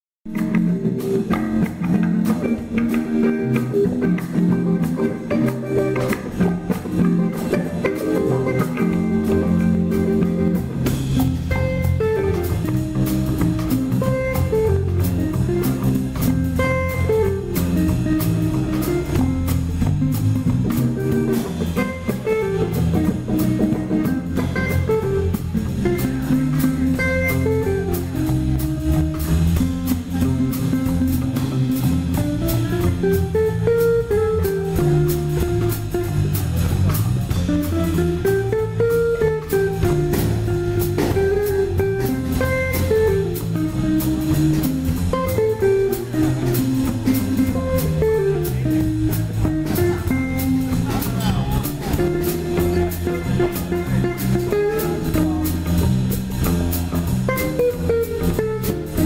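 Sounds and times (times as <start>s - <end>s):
drum kit cymbals: 0.3s - 59.0s
electric bass lines: 0.3s - 59.0s
electric guitar melody: 0.3s - 59.0s.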